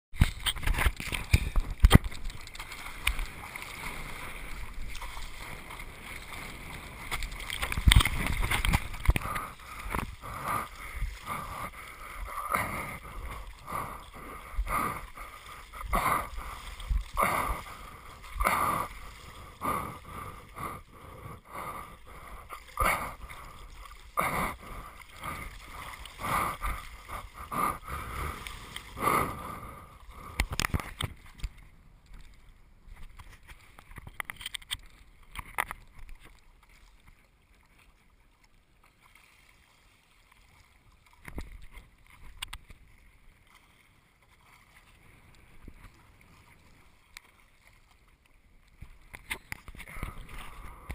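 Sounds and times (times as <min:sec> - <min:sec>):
water splashing around surfboard: 0:00.1 - 0:50.9.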